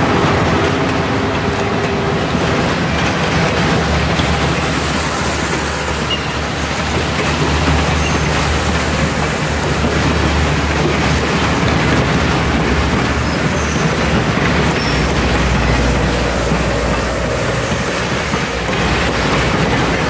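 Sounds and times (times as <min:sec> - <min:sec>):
continuous rushing noise: 0:00.0 - 0:20.0
diesel locomotive engine drone: 0:00.0 - 0:20.0.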